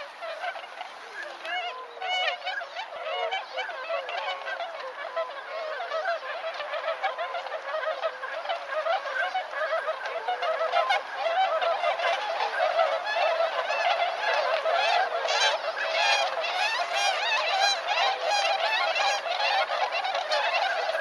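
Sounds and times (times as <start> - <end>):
swans honking: 0.0 - 21.0.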